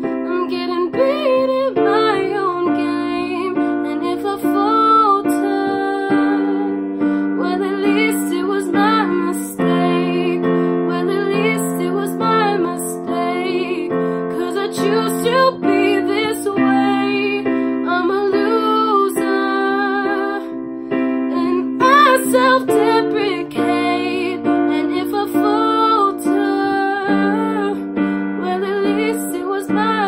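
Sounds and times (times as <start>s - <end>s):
piano chords: 0.0s - 30.0s
woman singing: 0.0s - 30.0s.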